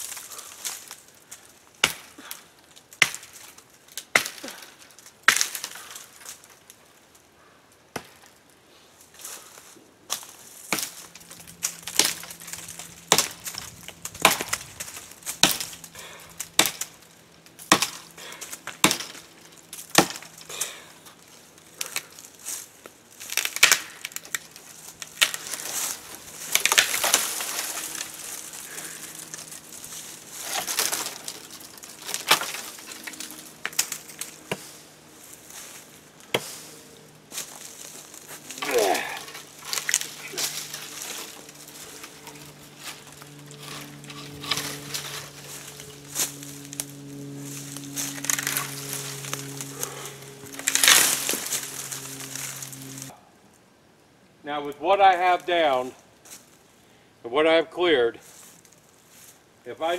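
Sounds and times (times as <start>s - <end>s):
brush rustling and branches breaking: 0.0s - 7.3s, 8.0s - 53.1s.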